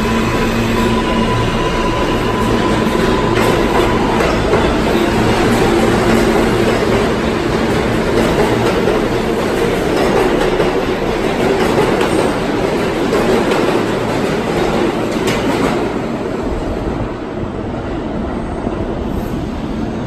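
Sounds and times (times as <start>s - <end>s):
subway train wheels rumbling on rail: 0.0s - 20.0s.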